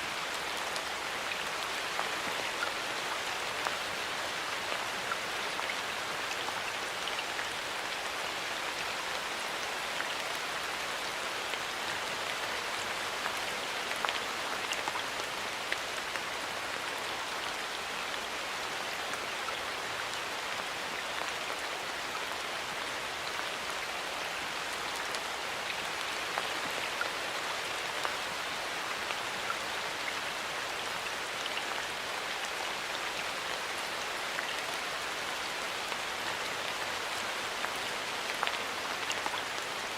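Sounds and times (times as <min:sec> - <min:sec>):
steady rain: 0:00.0 - 0:39.9
raindrops ticking on leaves: 0:00.1 - 0:39.9.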